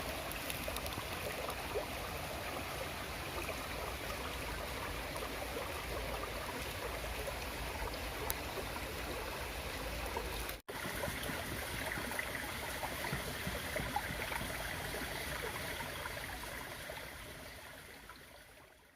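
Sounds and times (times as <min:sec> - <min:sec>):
stream water flowing: 0:00.0 - 0:18.9.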